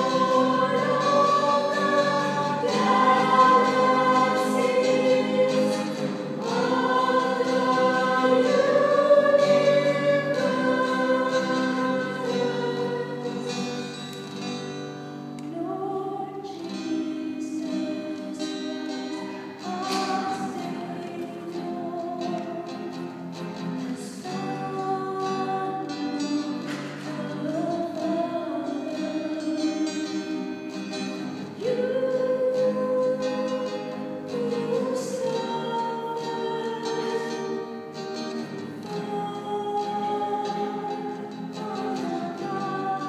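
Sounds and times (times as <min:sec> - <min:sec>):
choir singing in harmony: 0:00.0 - 0:14.8, 0:15.4 - 0:43.0.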